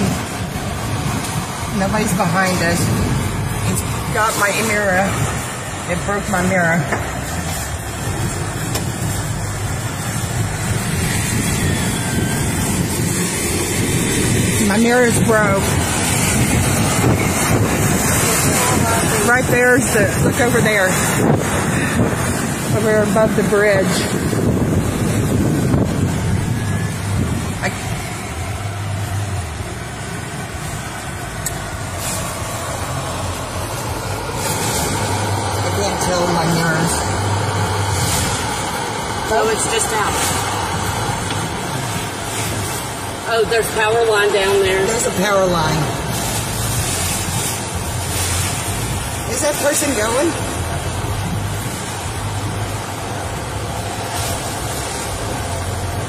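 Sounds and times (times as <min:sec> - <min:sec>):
wind buffeting a car: 0:00.0 - 0:56.0.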